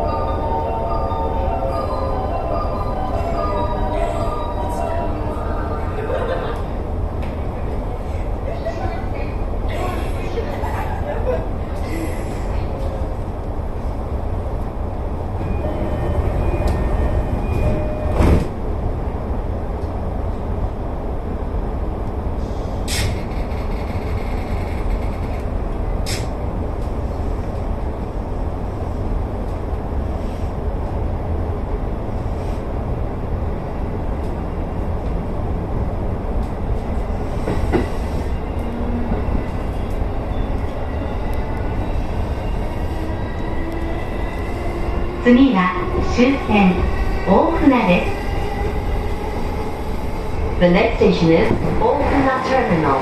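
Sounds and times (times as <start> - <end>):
electric train wheels rumbling on rail: 0.0 - 53.0.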